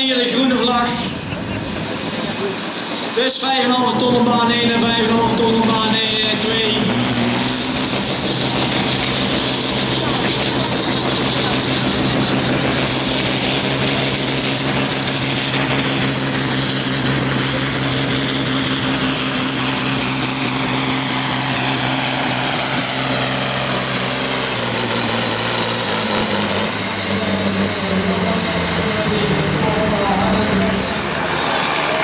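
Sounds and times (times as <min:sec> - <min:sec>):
tractor diesel engine droning: 0:00.0 - 0:32.0.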